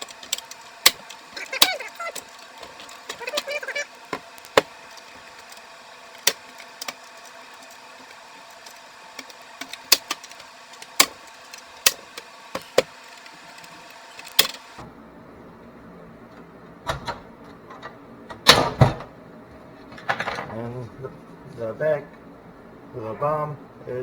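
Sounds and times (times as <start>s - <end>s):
steady faint hum: 0.0s - 24.0s.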